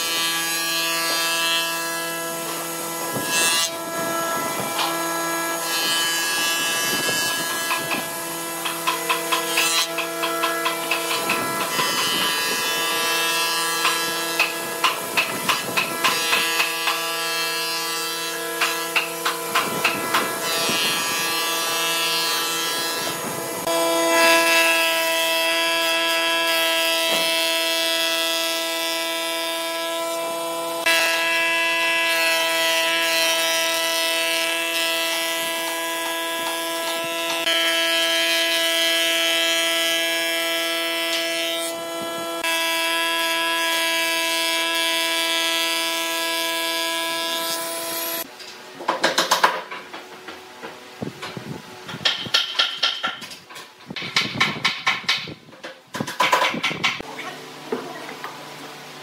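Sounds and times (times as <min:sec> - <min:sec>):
jointer cutterhead whine: 0:00.0 - 0:48.3.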